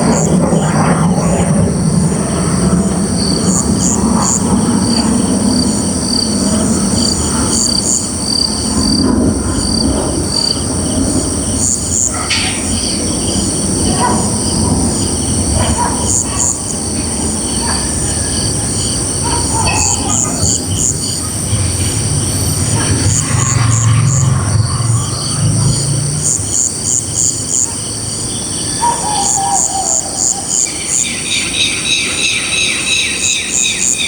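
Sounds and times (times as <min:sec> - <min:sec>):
constant low rumble: 0:00.0 - 0:32.6
crickets and insects chirping: 0:00.0 - 0:34.0.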